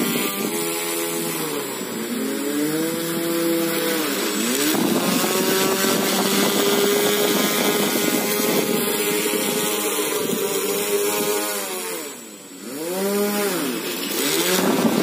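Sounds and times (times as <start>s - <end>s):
motor whining with propeller: 0.0s - 15.0s.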